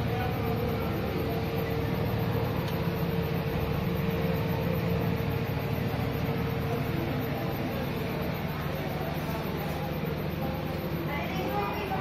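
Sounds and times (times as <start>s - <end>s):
faint hum: 0.0s - 12.0s
fans whirring: 0.0s - 12.0s.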